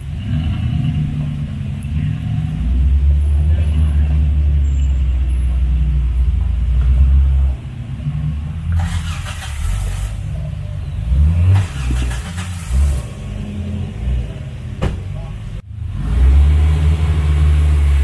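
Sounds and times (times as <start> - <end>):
off-road vehicle engine rumbling: 0.0 - 18.0.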